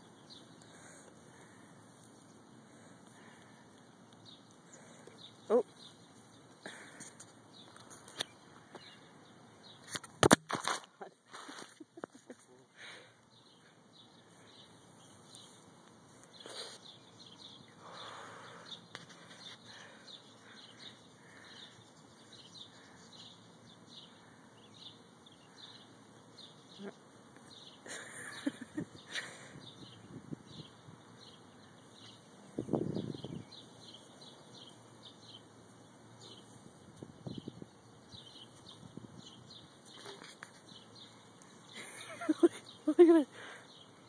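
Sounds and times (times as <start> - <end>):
small birds chirping: 0.0 - 10.1, 10.8 - 44.0.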